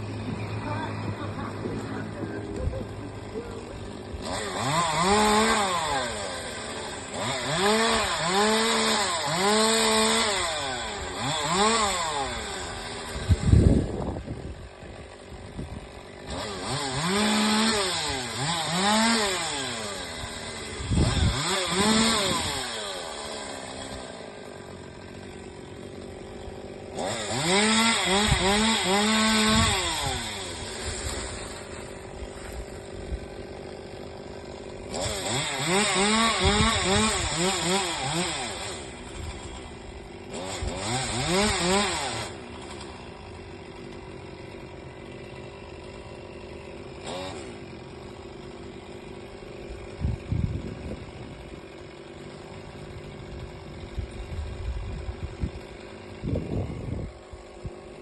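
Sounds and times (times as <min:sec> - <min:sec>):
chainsaw idling: 0:00.0 - 0:58.0
chainsaw revving: 0:00.0 - 0:58.0.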